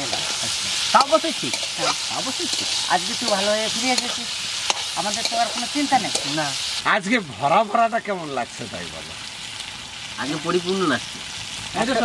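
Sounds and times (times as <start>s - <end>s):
men talking: 0.0s - 9.3s, 10.1s - 12.0s
steady hiss: 0.0s - 12.0s.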